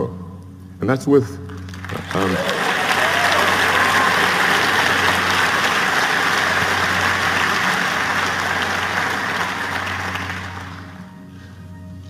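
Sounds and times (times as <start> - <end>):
audience applauding: 1.5 - 11.2.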